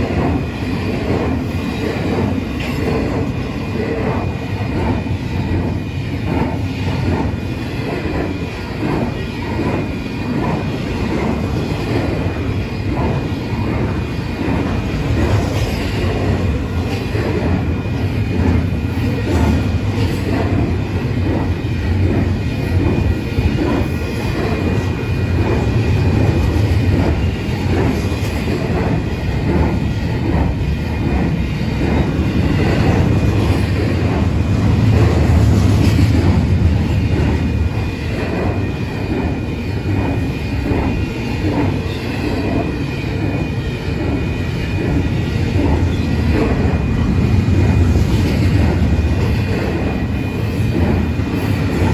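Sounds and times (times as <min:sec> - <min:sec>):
freight train rumbling past: 0:00.0 - 0:51.9.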